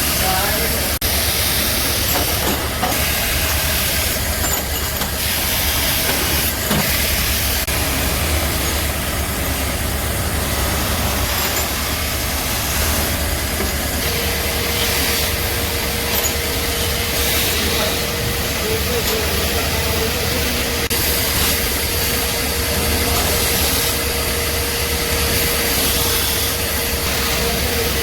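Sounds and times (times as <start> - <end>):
machine hiss over low hum: 0.0 - 28.0.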